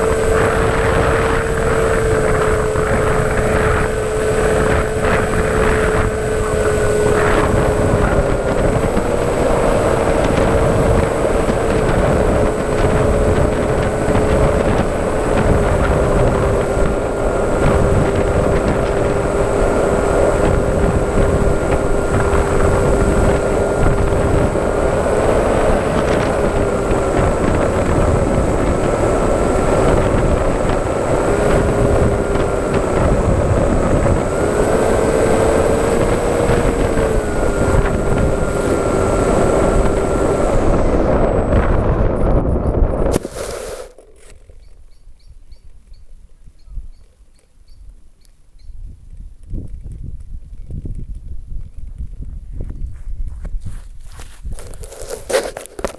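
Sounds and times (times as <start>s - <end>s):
model aircraft motor whine: 0.0s - 46.0s
wind on microphone: 0.0s - 47.1s, 48.6s - 55.9s.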